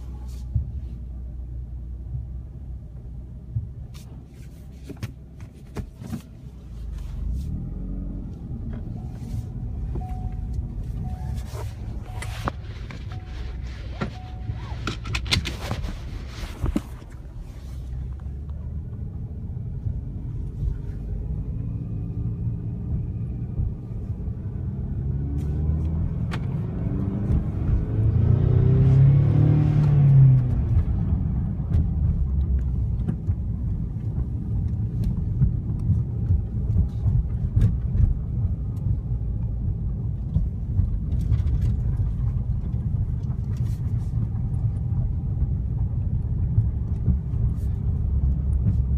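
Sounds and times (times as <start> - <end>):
car engine revving in cabin: 0.0 - 48.9.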